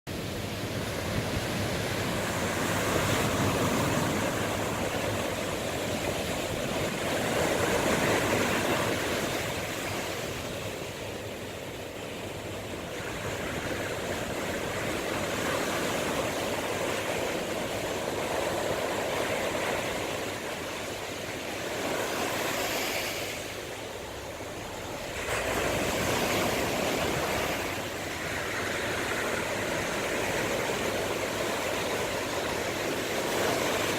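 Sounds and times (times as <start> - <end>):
sea surf breaking on shore: 0.1 - 33.9.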